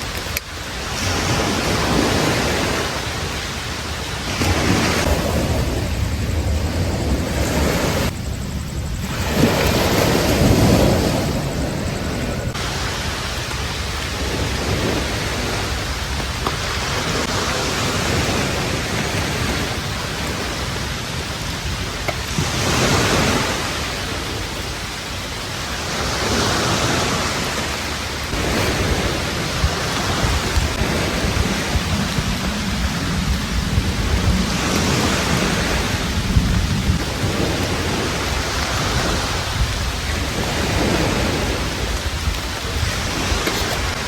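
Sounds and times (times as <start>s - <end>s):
waves washing onto beach: 0.0s - 44.0s
wind on microphone: 0.0s - 44.0s.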